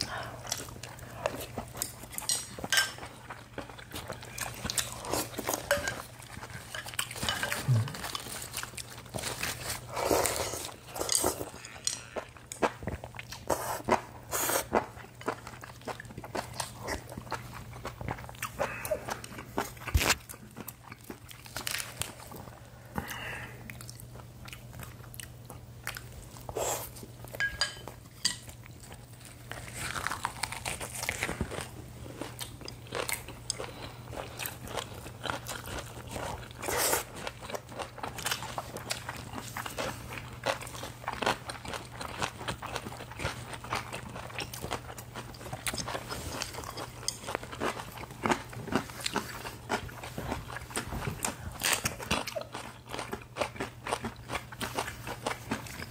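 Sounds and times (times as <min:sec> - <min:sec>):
crunching and chewing food: 0:00.0 - 0:55.9.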